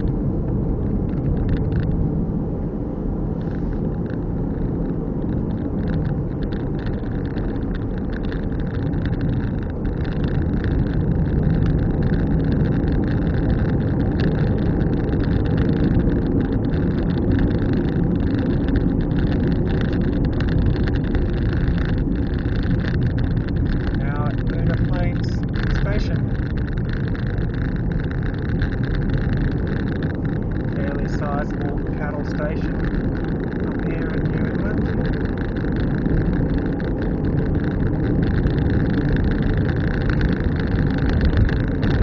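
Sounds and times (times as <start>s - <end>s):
car engine and tyre rumble: 0.0s - 42.0s
fine crackle: 3.2s - 42.0s.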